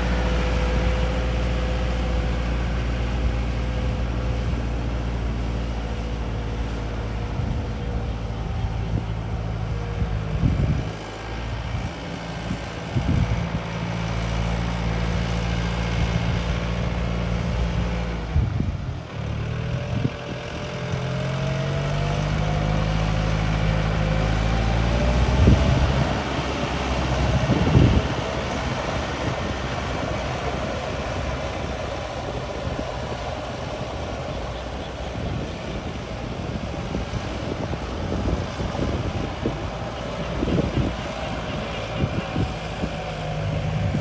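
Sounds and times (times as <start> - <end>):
diesel tractor engine running: 0.0 - 44.0.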